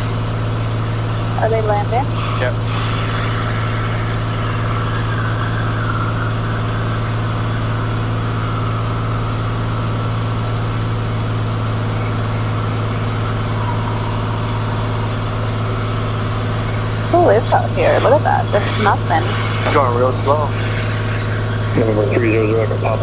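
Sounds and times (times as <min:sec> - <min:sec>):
airplane engine and propeller hum: 0:00.0 - 0:23.0.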